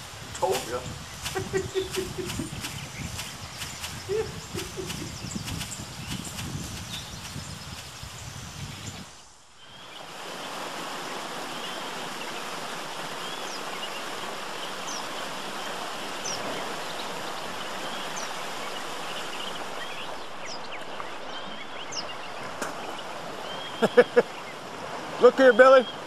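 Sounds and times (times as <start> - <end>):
creek water rushing over rocks: 0.0 - 8.0, 8.9 - 26.0.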